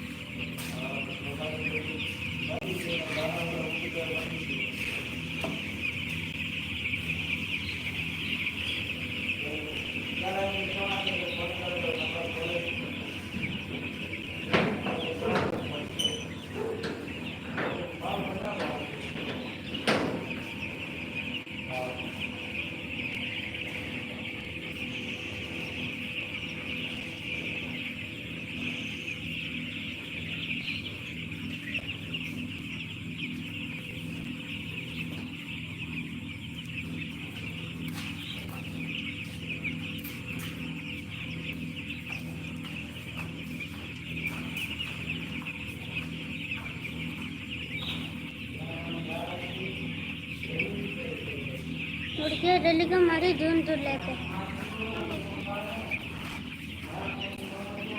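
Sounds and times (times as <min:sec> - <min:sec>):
chicks peeping: 0:00.0 - 0:57.9
low mechanical hum: 0:00.0 - 0:57.9.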